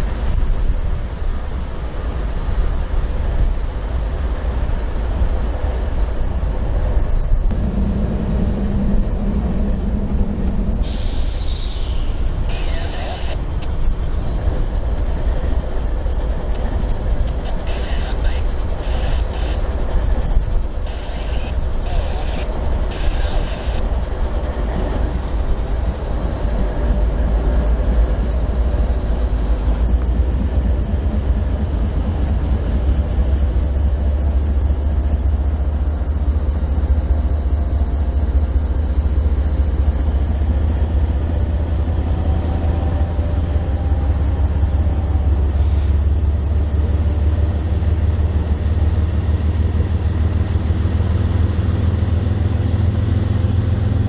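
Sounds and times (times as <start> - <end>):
locomotive engine drone: 0.0 - 54.0
rail cars rumbling on track: 0.0 - 54.0.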